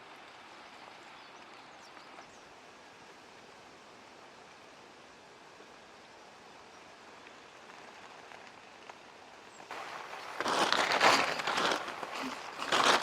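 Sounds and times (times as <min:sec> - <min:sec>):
rain hissing on tent: 0:00.0 - 0:13.0
rain pattering on tent: 0:00.0 - 0:13.0.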